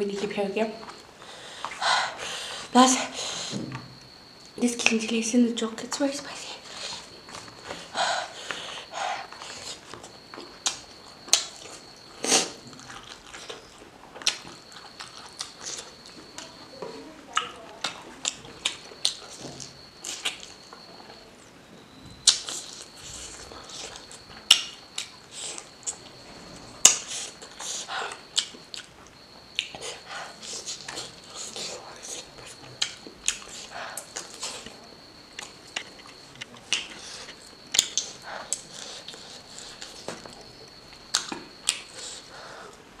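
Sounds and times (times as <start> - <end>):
faint high whine: 0.0 - 43.0
mouth chewing noises: 6.6 - 21.2, 22.2 - 26.2, 26.8 - 43.0.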